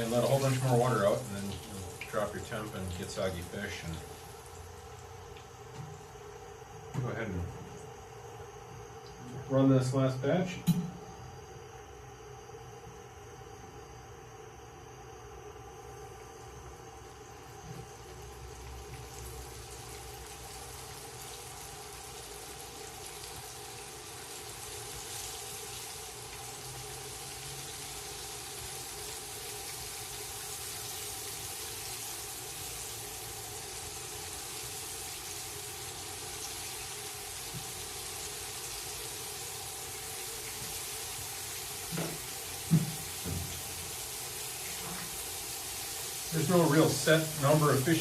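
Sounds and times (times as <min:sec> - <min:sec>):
fish frying in oil: 0:00.0 - 0:06.8, 0:16.0 - 0:48.0.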